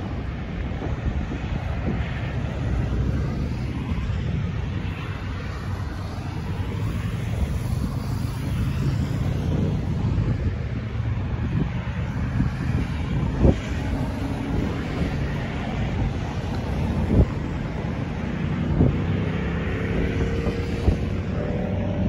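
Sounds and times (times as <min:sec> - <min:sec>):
distant road traffic: 0:00.0 - 0:22.0
wind buffeting microphone: 0:00.0 - 0:22.0.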